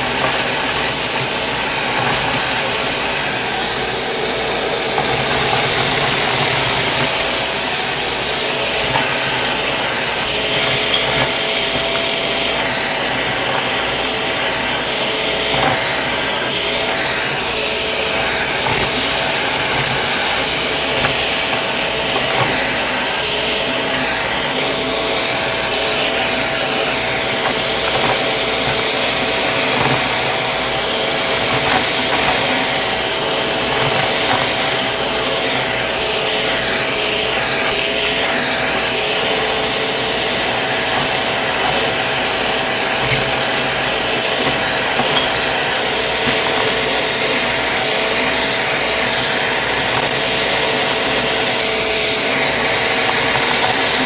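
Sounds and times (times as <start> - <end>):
debris crunching up vacuum tool: 0.0 - 54.0
vacuum cleaner motor running: 0.0 - 54.0.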